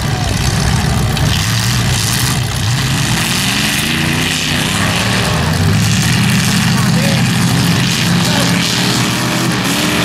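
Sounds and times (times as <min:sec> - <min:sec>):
demolition derby car engines running: 0:00.0 - 0:10.0
engine revving up: 0:00.0 - 0:10.0.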